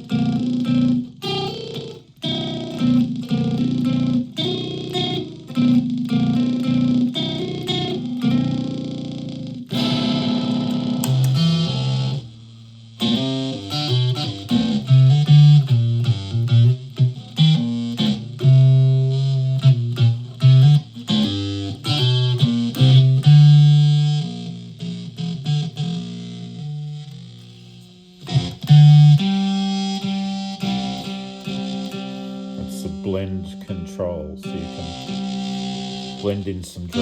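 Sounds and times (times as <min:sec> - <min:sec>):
electric ukulele plucked notes: 0:00.0 - 0:12.3, 0:13.0 - 0:37.0.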